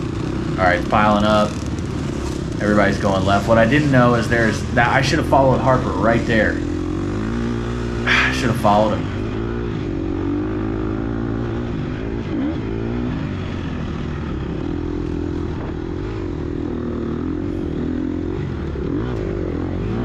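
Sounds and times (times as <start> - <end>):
dirt bike engine revving: 0.0 - 20.0
wind and ride noise: 0.0 - 20.0.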